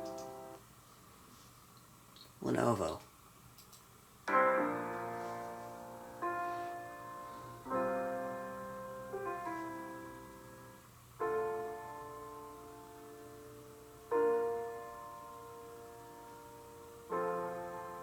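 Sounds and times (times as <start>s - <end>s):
slow piano music through laptop speakers: 0.0s - 1.4s, 4.2s - 18.0s.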